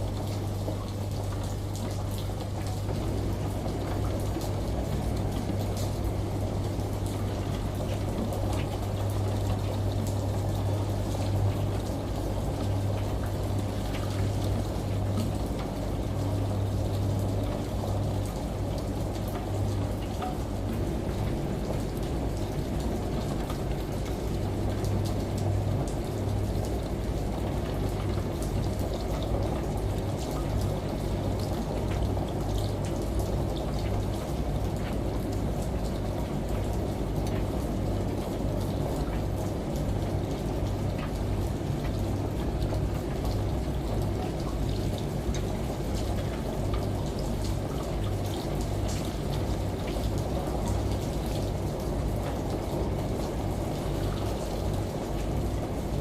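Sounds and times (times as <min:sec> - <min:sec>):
rain and shower water: 0:00.0 - 0:56.0
washing machine running: 0:00.0 - 0:56.0.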